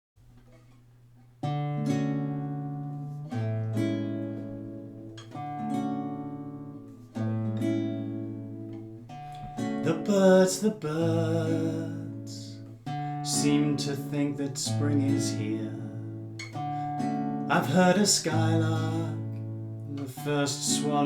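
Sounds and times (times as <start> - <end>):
acoustic guitar chords ringing: 1.3 - 21.0.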